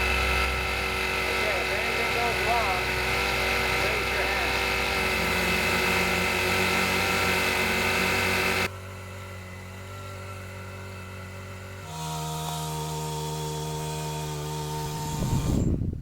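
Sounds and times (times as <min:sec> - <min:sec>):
winch motor running: 0:00.0 - 0:15.8.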